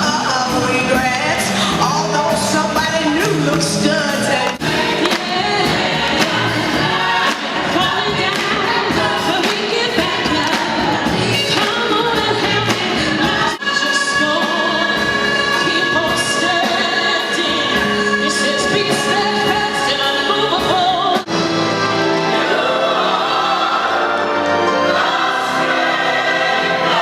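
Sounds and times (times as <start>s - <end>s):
orchestra accompaniment: 0.0s - 27.0s
choir singing: 4.2s - 27.0s.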